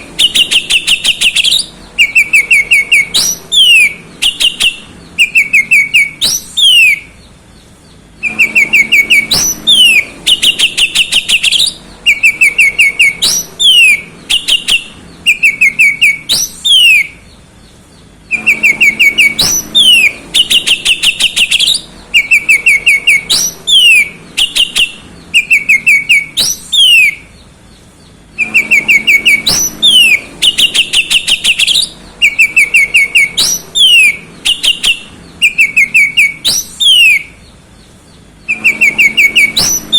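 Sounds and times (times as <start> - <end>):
bird singing whistles and chatter: 0.0 - 7.2, 8.2 - 17.3, 18.3 - 27.3, 28.3 - 37.5, 38.4 - 39.9.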